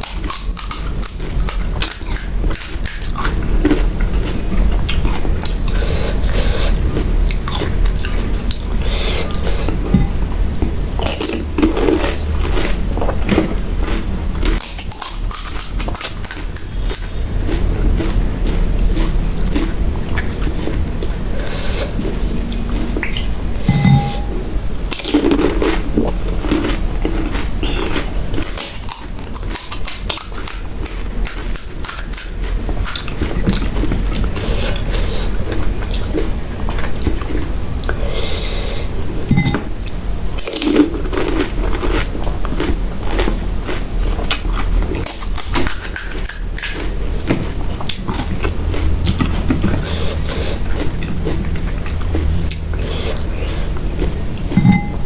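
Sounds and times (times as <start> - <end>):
chewing: 0.0 - 24.3, 24.9 - 38.8, 39.4 - 55.0.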